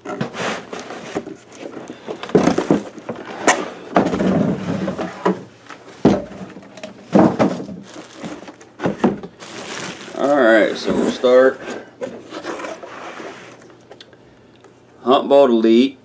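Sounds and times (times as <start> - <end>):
cardboard boxes scraping and knocking: 0.0 - 13.6.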